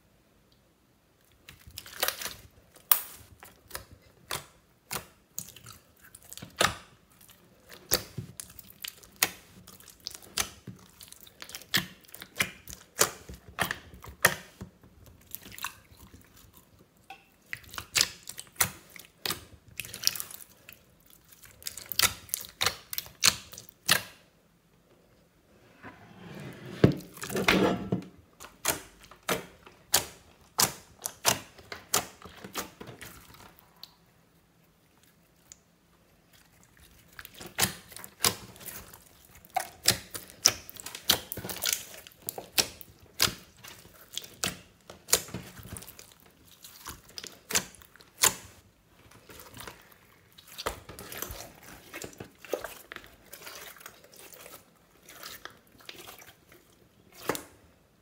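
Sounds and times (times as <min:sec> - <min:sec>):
slime squelch: 0:01.0 - 0:24.4, 0:27.0 - 0:58.0
hands squishing slime: 0:01.2 - 0:24.2, 0:28.4 - 0:34.1, 0:36.2 - 0:57.6.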